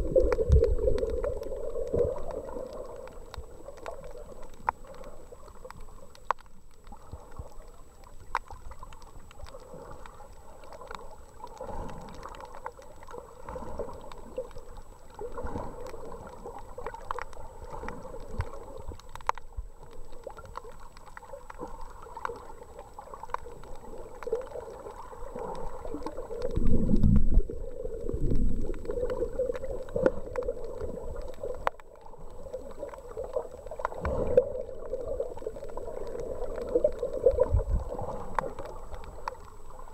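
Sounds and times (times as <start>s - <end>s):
small underwater clicks: 0.0s - 39.9s
underwater gurgling and sloshing: 0.0s - 39.9s.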